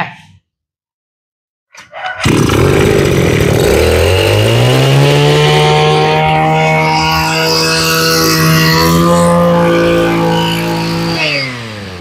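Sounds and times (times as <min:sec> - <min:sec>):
brush cutter engine revving: 0:02.2 - 0:12.0.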